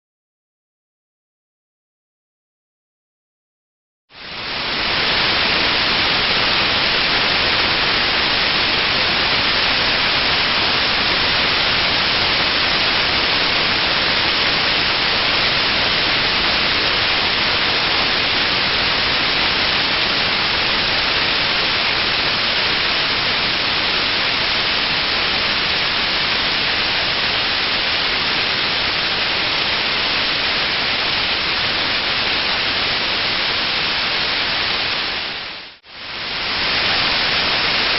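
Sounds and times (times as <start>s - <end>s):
waterfall rushing: 4.2s - 37.9s.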